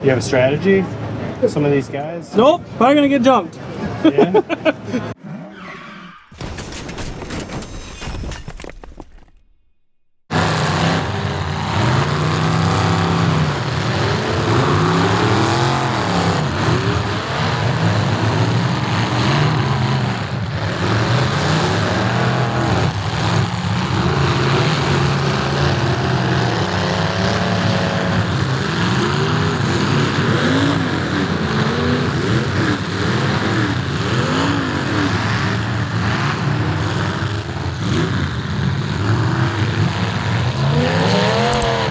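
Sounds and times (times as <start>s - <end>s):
car engines revving: 0.0s - 7.4s, 10.3s - 41.9s.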